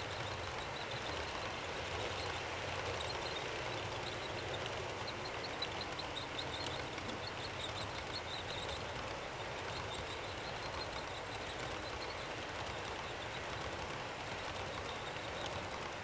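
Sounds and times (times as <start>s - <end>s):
model train wagons rolling: 0.0s - 16.0s
rapid wheel clicking: 0.0s - 16.0s.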